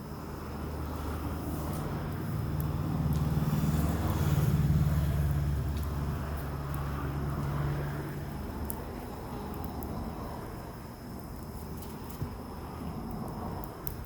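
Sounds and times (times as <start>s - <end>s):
vehicle engine hum: 0.0s - 11.8s
fire crackling pops: 0.0s - 14.0s.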